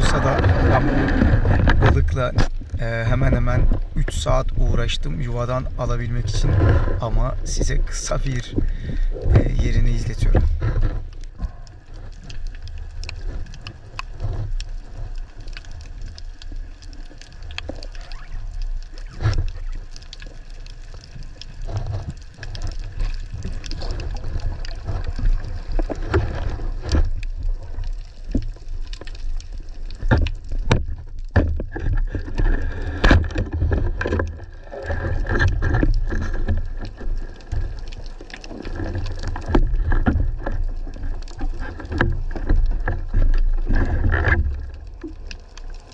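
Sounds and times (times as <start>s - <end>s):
underwater clicks and crackles: 0.0s - 45.9s
underwater rumble of moving water: 0.0s - 45.9s.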